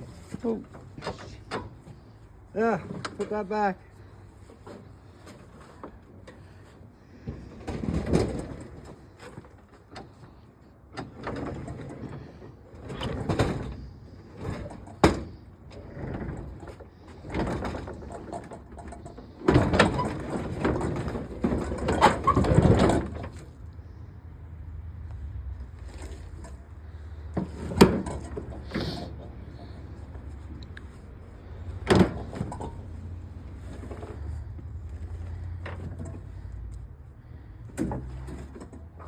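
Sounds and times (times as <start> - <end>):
scrap metal clunking and scraping: 0.0 - 24.0, 25.1 - 39.0.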